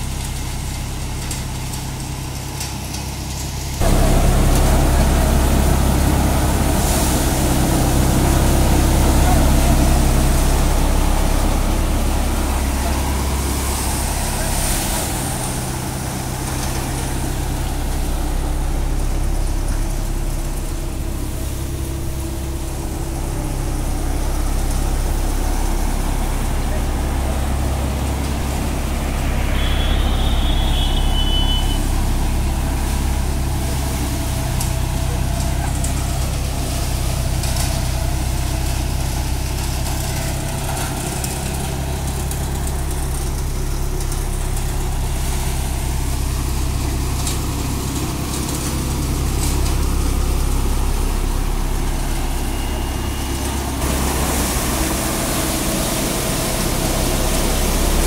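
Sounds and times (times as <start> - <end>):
tractor engine drone: 0.0 - 58.0
threshing machine rushing: 3.8 - 58.0.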